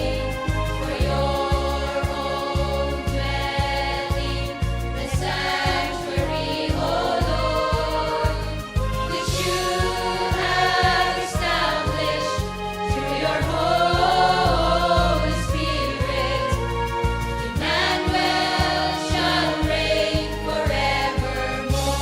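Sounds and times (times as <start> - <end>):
choir singing a hymn: 0.0 - 22.0
musical backing with steady beat: 0.0 - 22.0.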